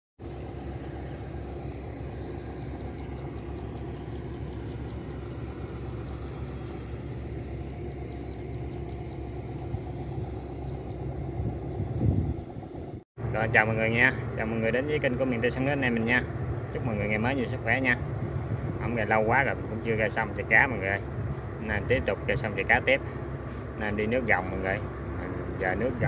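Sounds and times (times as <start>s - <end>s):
engine idling: 0.2s - 26.0s.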